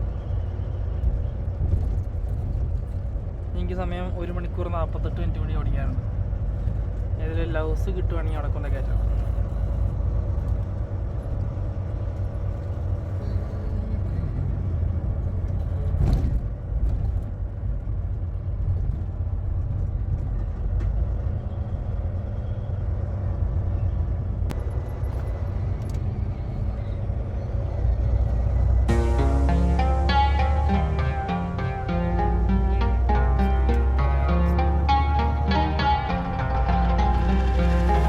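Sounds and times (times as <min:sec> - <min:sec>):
truck engine and road rumble: 0:00.0 - 0:38.0.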